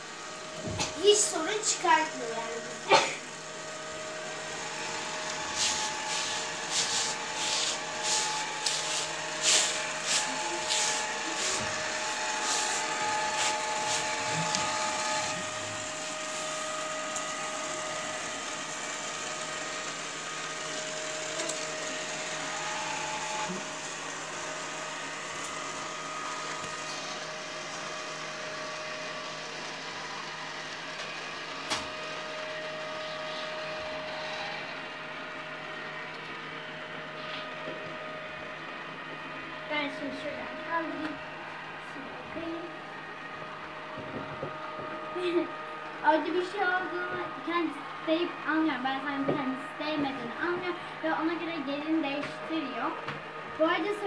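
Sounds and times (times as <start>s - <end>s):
robot vacuum whirring: 0.0s - 54.0s.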